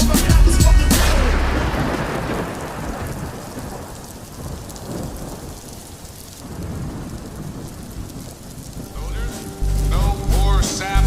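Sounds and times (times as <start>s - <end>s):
rain falling: 0.0s - 11.0s
thunder rumbling: 0.0s - 11.0s.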